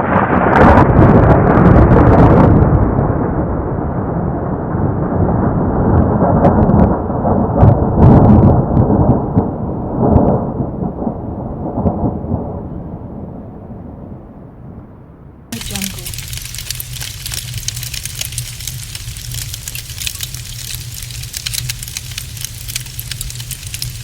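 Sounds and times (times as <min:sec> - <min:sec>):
thunder rumbling and cracking: 0:00.0 - 0:14.8, 0:15.6 - 0:24.0.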